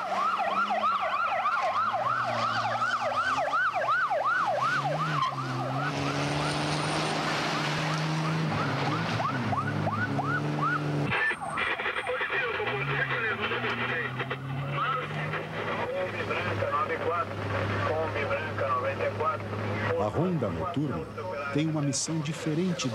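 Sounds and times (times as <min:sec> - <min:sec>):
police siren yelping: 0:00.0 - 0:19.2
engine running: 0:00.0 - 0:20.4.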